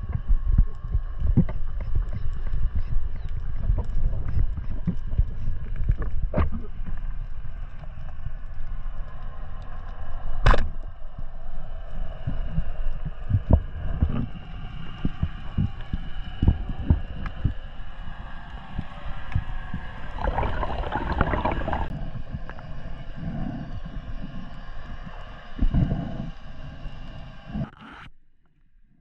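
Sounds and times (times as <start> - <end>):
muffled underwater water noise: 0.0 - 28.1.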